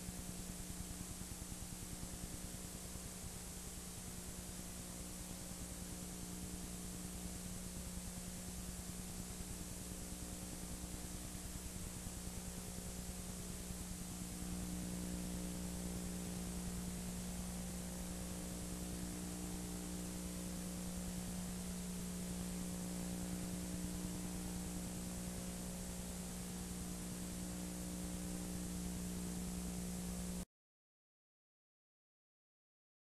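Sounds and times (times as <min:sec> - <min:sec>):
tape hiss and mains hum: 0:00.0 - 0:30.5.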